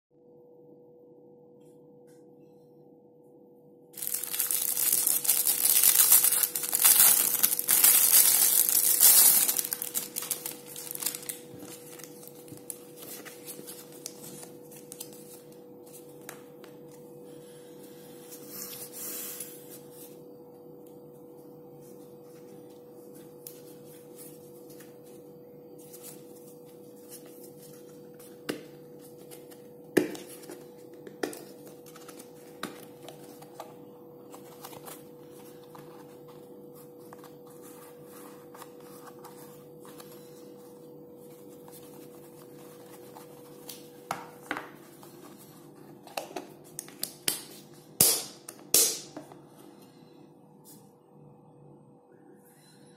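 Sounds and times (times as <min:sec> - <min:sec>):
faint steady hum: 0:00.2 - 0:52.9.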